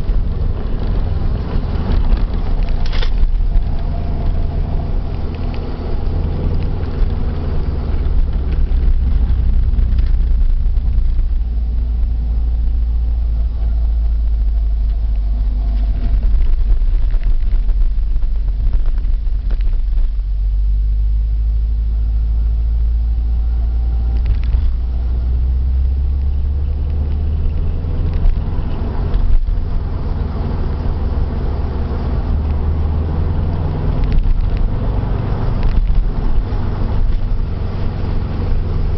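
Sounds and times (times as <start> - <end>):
car road rumble: 0.0 - 38.9.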